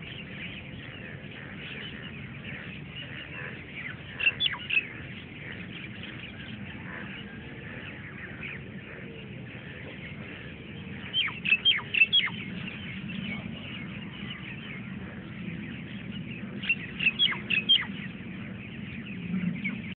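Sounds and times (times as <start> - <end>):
steady background hiss: 0.0 - 19.9.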